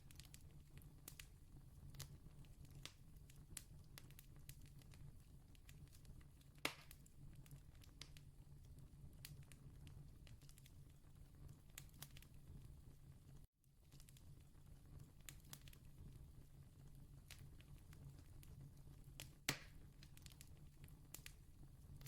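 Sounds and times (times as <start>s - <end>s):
campfire crackling: 0.1s - 22.0s.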